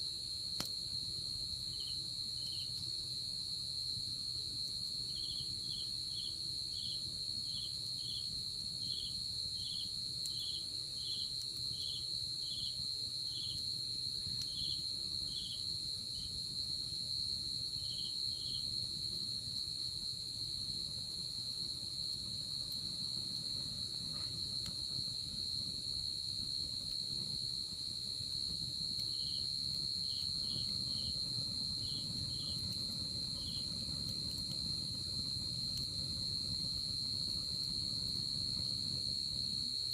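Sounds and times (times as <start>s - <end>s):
high-pitched insect trill: 0.0s - 39.9s
insect chirping: 0.0s - 39.9s.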